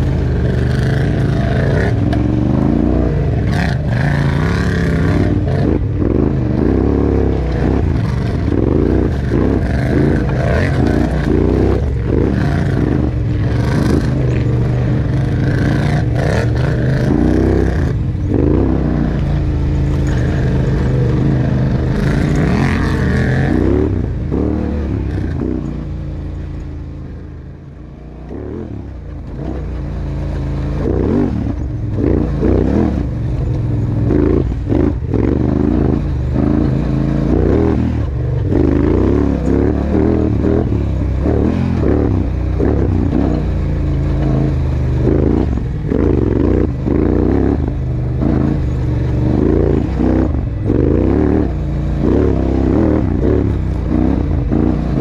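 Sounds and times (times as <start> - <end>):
quad engine revving: 0.0 - 26.5, 27.1 - 55.0
rattle and clatter over rough ground: 0.0 - 55.0.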